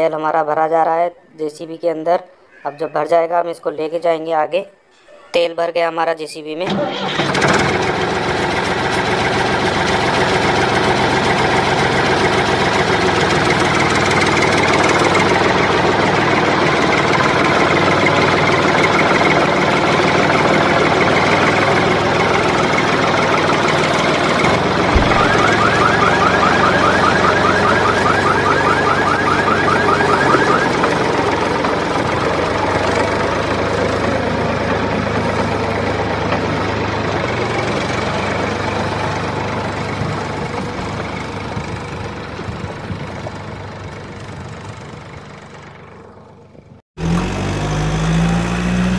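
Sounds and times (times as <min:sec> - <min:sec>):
vehicle engine running: 0:07.0 - 0:48.9.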